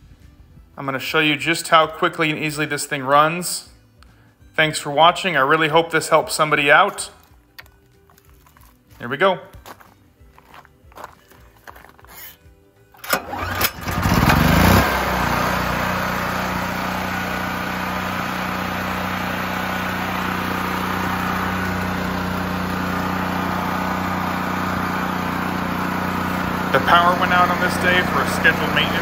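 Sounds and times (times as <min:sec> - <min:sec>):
generator engine starting and running: 0:00.9 - 0:29.0.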